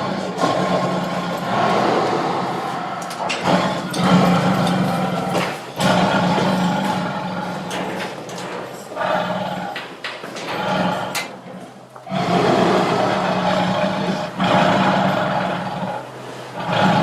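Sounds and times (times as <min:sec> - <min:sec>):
tiger roaring and growling: 0:00.0 - 0:17.0.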